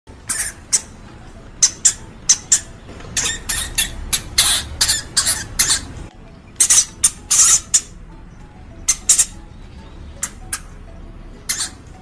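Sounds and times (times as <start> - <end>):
hamster squeaking: 0.1 - 8.0, 8.8 - 10.8, 11.4 - 12.0.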